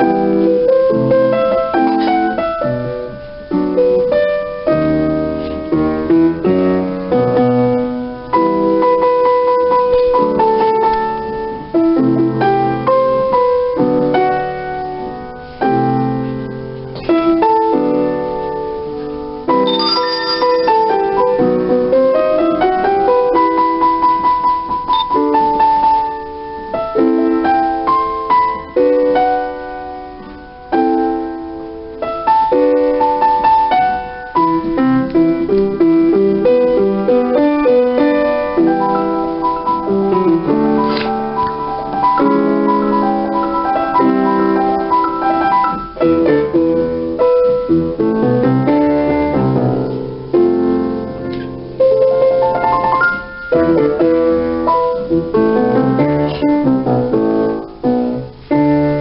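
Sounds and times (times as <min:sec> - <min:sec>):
piano melody over chords: 0:00.0 - 0:59.0.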